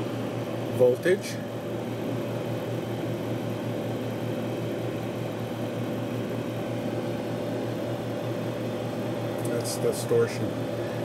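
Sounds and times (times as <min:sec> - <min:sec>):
electrical hum: 0:00.0 - 0:11.0
fan whir: 0:00.0 - 0:11.0.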